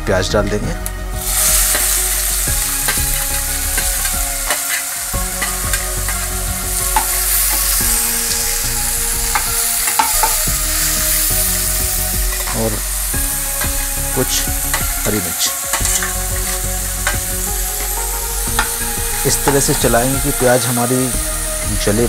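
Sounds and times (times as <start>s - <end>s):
spatula scraping pan: 1.2s - 19.8s
onions sizzling in oil: 1.2s - 22.0s.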